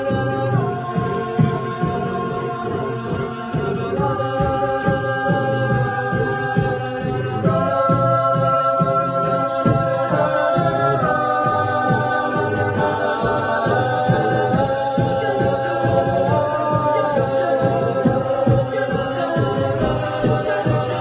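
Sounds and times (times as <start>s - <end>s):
a cappella group singing chords: 0.0s - 21.0s
beatboxed vocal percussion: 0.0s - 21.0s.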